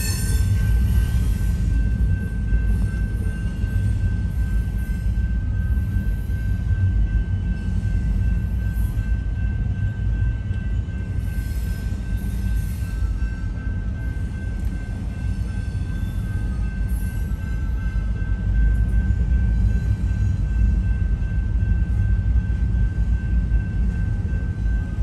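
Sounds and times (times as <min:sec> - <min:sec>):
train rolling slowly: 0:00.0 - 0:25.0.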